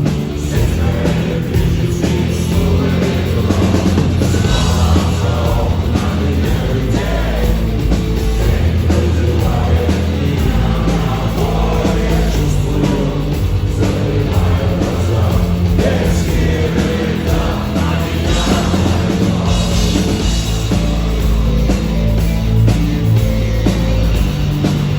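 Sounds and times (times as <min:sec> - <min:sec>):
rock band playing with singing: 0:00.0 - 0:24.9.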